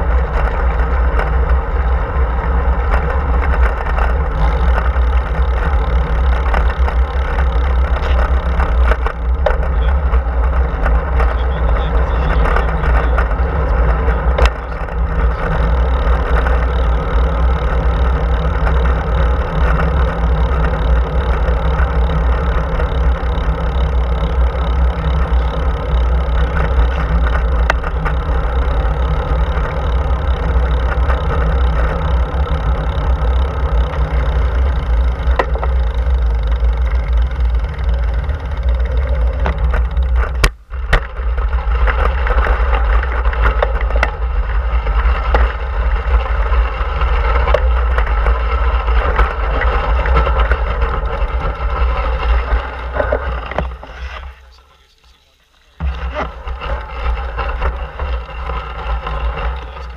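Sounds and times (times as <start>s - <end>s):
tyre noise on asphalt: 0.0s - 59.9s.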